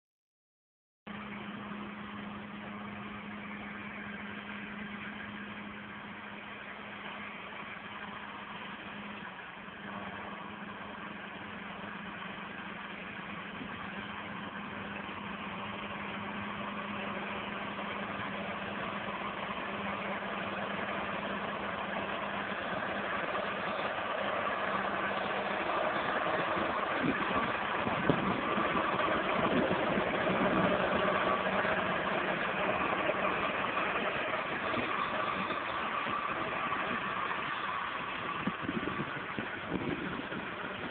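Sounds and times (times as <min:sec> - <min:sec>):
tractor diesel engine running: 0:01.1 - 0:40.9.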